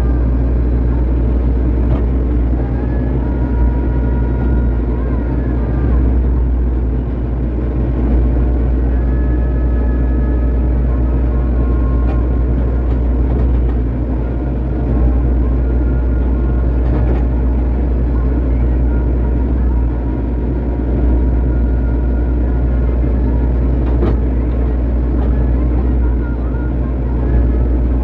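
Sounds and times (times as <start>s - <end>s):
excavator diesel engine rumbling: 0.0s - 28.0s.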